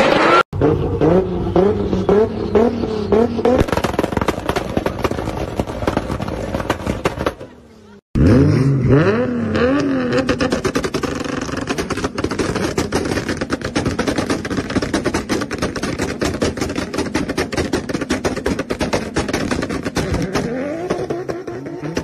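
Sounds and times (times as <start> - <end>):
car engine revving: 0.0 - 6.7, 8.2 - 22.0
exhaust pops and bangs: 1.6 - 7.6, 9.8 - 22.0.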